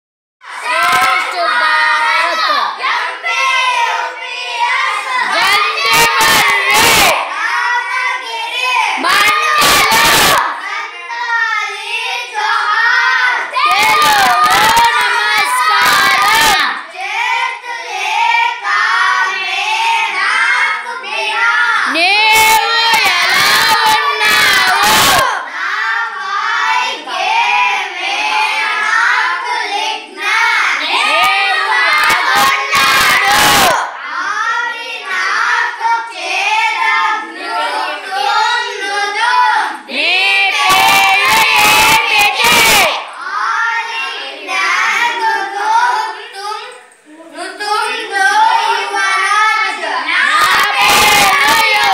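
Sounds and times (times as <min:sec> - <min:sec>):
children chanting and singing: 0:00.4 - 0:51.9.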